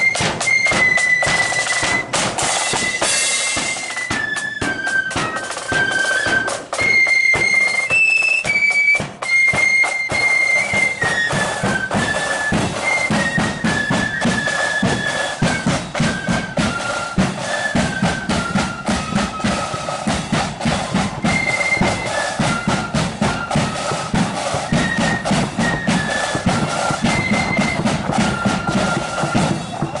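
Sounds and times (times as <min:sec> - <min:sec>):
side drum rattling: 0:00.0 - 0:07.6, 0:11.2 - 0:30.0
flutes playing melody: 0:00.0 - 0:30.0.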